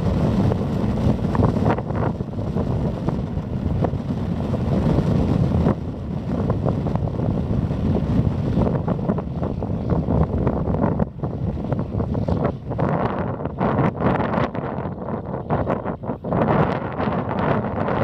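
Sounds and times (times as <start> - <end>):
light aircraft engine: 0.0 - 18.0
wind buffeting microphone: 0.0 - 18.0.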